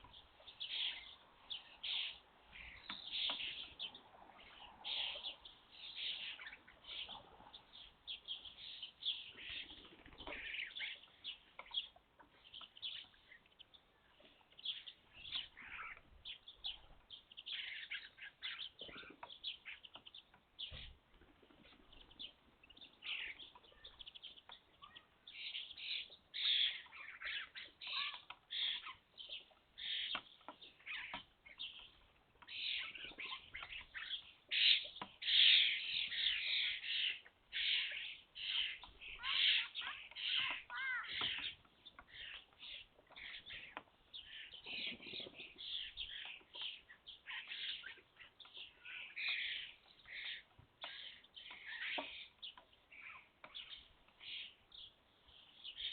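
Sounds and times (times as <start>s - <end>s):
young starlings chattering: 0.0s - 21.0s, 21.6s - 55.9s.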